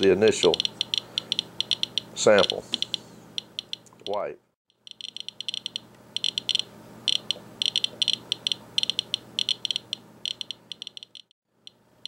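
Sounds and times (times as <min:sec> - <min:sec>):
faint steady hum: 0:00.0 - 0:12.0
geiger counter beeping: 0:00.5 - 0:04.2, 0:04.8 - 0:11.8.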